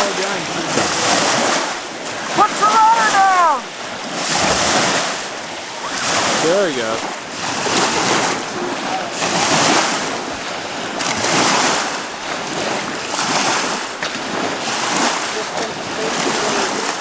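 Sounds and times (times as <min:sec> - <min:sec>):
small waves washing onto beach: 0:00.0 - 0:17.0
wind buffeting microphone: 0:00.1 - 0:17.0.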